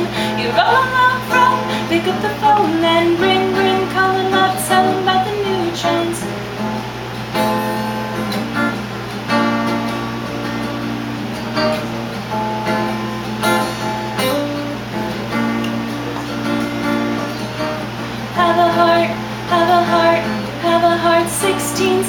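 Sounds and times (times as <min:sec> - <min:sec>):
guitar strumming chords: 0:00.0 - 0:22.0
steady low hum: 0:00.0 - 0:22.0.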